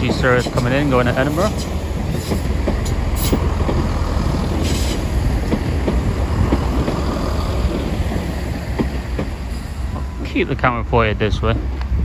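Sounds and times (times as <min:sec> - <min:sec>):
wheels clicking over rail joints: 0:00.0 - 0:10.4
diesel train engine rumble: 0:00.0 - 0:12.0.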